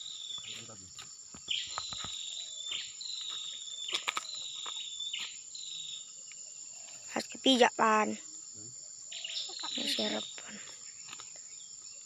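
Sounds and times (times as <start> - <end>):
insect chirping: 0.0 - 12.0
insects droning: 0.0 - 12.0.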